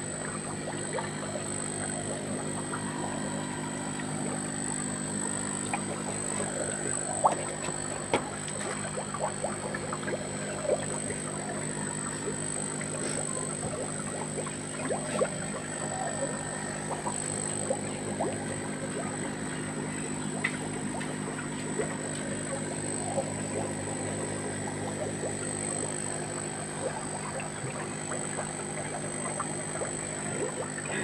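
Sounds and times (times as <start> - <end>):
steady hum: 0.0 - 31.0
water churning and bubbling: 0.0 - 31.0.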